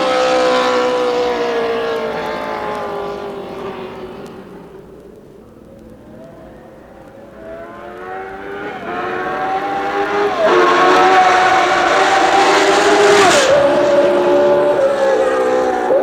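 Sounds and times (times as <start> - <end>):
racing car engine accelerating: 0.0 - 4.8, 6.2 - 16.0.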